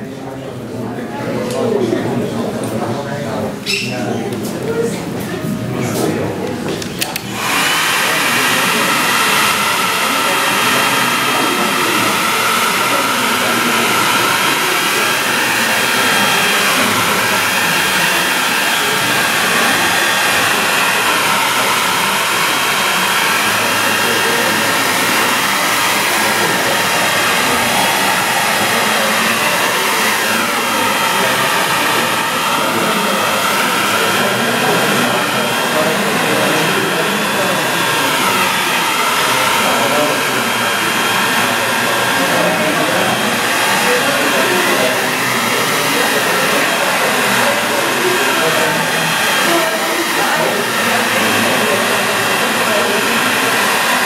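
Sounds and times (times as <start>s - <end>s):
hair dryer blowing: 4.4s - 54.0s.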